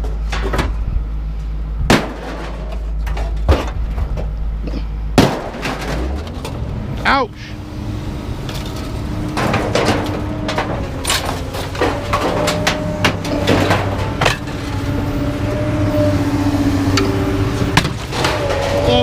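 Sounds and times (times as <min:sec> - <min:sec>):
engine hum: 0:00.0 - 0:19.0
scrap metal clanking: 0:01.9 - 0:19.0.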